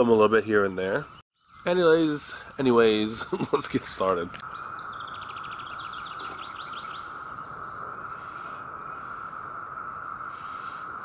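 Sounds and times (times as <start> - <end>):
high insect drone: 1.7 - 11.0.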